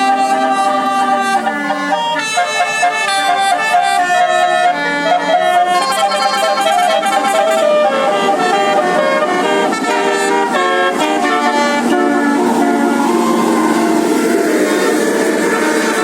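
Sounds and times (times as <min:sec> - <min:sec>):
bus musical horns playing a tune: 0:00.0 - 0:16.0.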